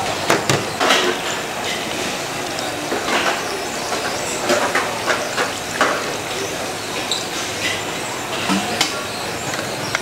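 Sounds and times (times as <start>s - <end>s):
cooking utensils clinking: 0.3s - 10.0s.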